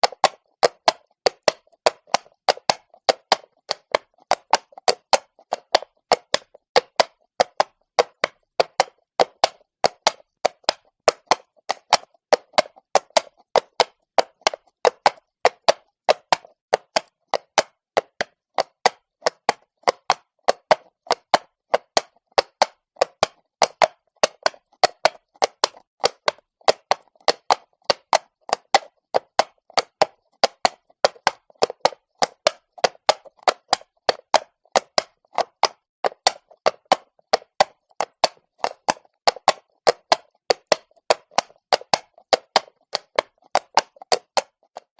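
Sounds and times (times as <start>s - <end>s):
horse hooves on cobblestone: 0.0s - 44.9s.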